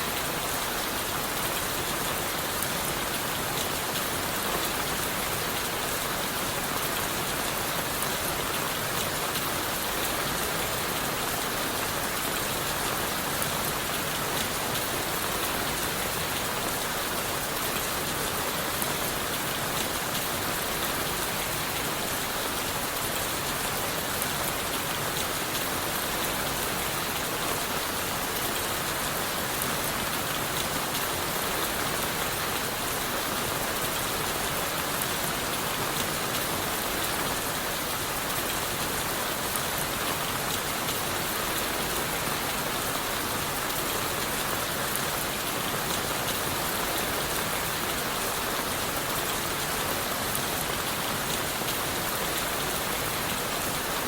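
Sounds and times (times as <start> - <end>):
rain falling on leaves and wood: 0.0 - 54.0.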